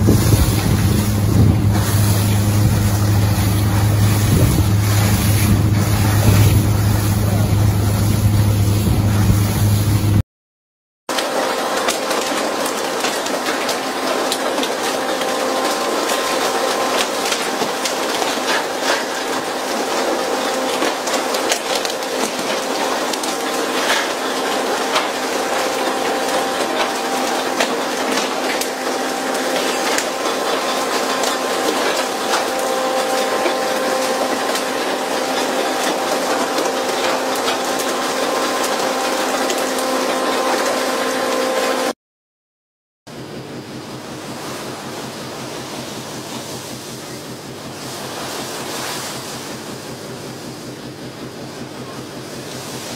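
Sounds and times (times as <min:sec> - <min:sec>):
machinery hum: 0:00.0 - 0:10.2, 0:11.1 - 0:41.9, 0:43.1 - 0:52.9.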